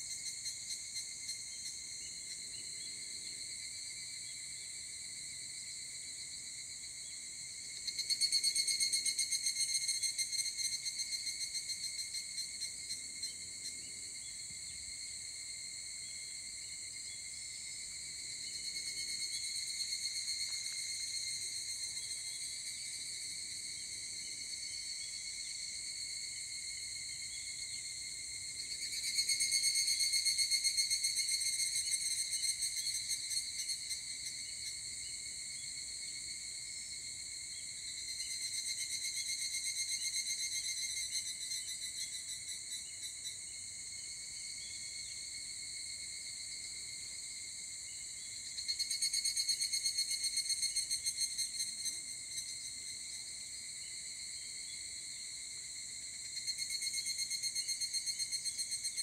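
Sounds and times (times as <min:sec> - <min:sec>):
nearby cicada singing loudly: 0:00.0 - 0:59.0.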